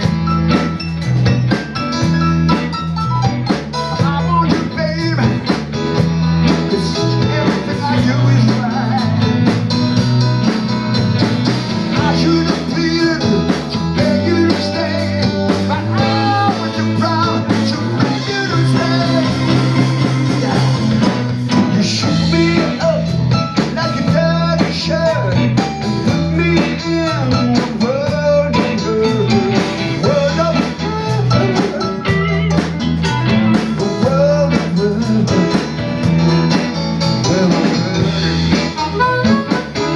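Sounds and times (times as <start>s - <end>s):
blues trio playing: 0.0s - 39.9s.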